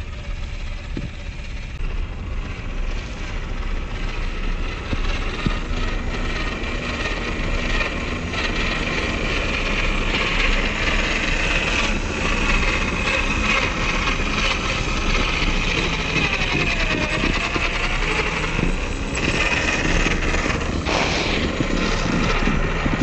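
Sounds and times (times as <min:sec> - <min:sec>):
toy truck motor whining: 0:02.6 - 0:23.0.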